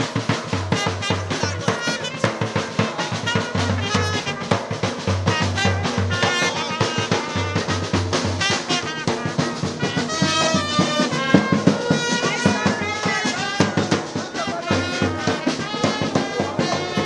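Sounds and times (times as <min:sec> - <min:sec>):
horns playing: 0:00.0 - 0:17.0
steady drum beat: 0:00.0 - 0:17.0.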